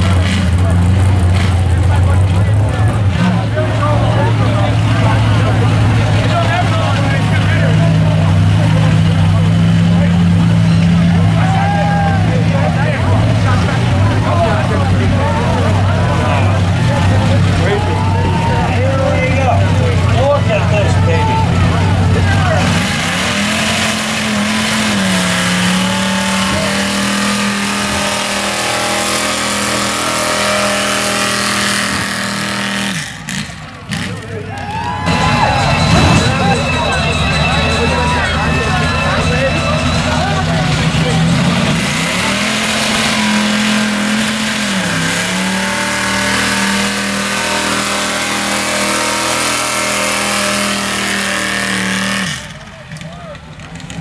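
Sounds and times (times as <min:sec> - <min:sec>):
truck engine at high revs: 0:00.0 - 0:54.0.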